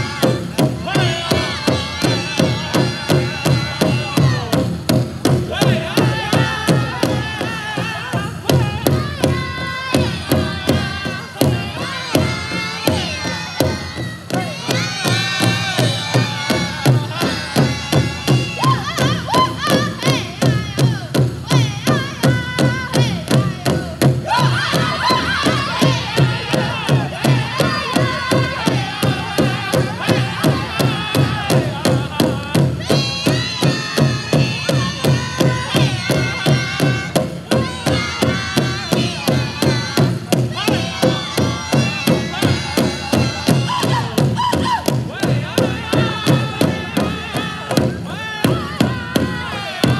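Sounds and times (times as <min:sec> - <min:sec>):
big drum steady beat: 0:00.0 - 0:49.9
high strained singing voices: 0:00.0 - 0:49.9.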